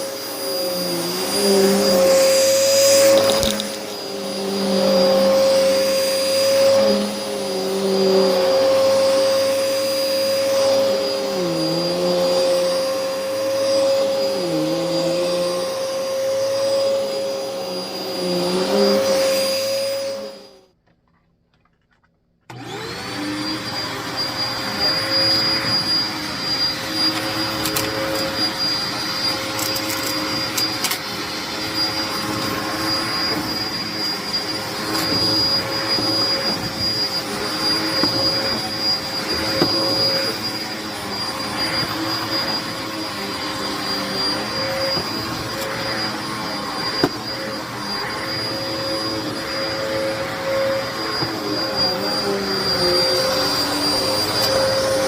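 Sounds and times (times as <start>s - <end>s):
vacuum cleaner motor whine: 0.0s - 20.7s, 22.5s - 55.0s.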